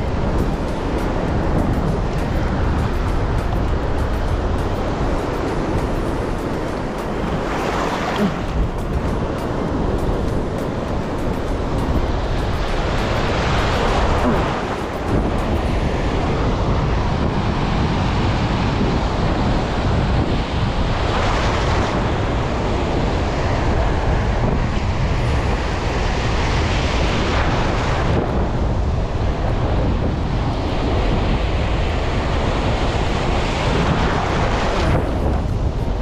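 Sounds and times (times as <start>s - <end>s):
surf washing on shore: 0.0s - 36.0s
wind rumbling on microphone: 0.0s - 36.0s.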